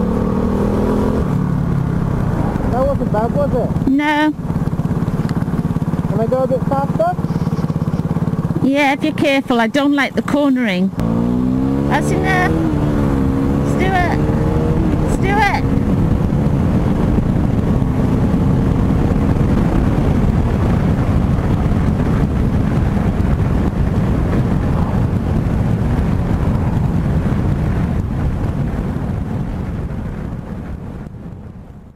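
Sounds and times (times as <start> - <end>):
faint motorcycle engine: 0.0 - 31.9
wind rushing over microphone: 0.0 - 31.9.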